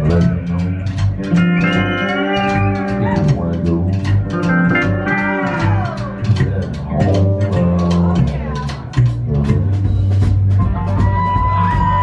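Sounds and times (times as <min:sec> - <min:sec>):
drums keeping a steady beat: 0:00.0 - 0:12.0
electric guitar: 0:00.0 - 0:12.0
upright bass: 0:00.0 - 0:12.0.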